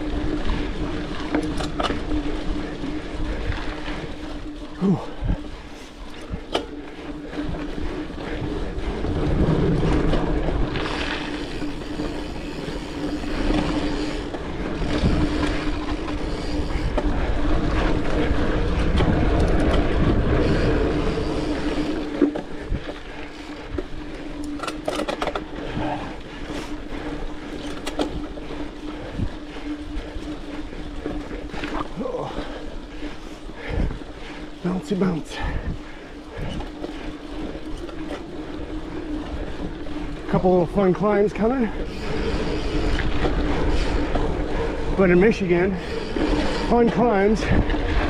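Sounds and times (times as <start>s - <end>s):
wind rushing over microphone: 0.0s - 24.8s, 25.4s - 48.0s
bike clicking and rattling: 0.0s - 48.0s
bike tyres on dirt trail: 0.0s - 48.0s
steady hum: 0.0s - 48.0s.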